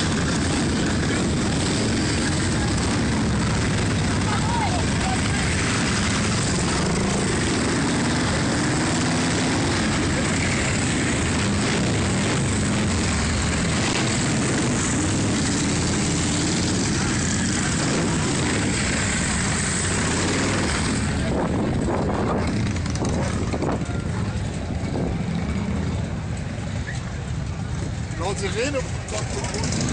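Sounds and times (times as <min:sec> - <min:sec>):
motorcycle engines rumbling: 0:00.0 - 0:29.9.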